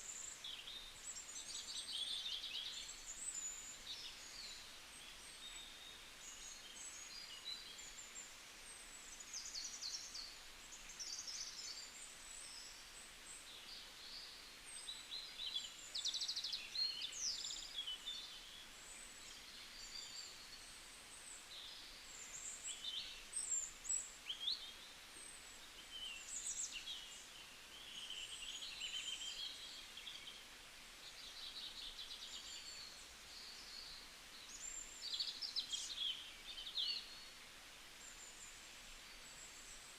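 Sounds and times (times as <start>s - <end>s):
small birds chirping and trilling: 0.0s - 37.4s
faint hiss: 0.0s - 39.9s.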